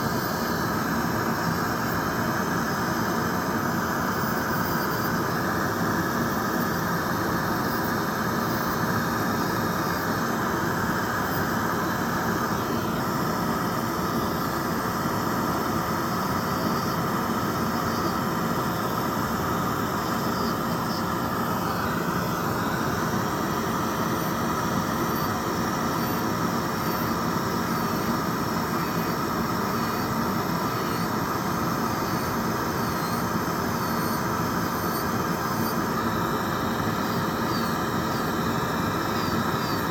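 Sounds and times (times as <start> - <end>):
electric nail drill whining: 0.0 - 39.9.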